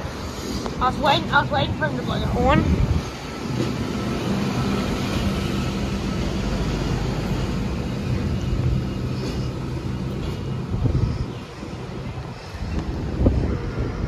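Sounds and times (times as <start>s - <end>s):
electric train running past: 0.0s - 14.0s.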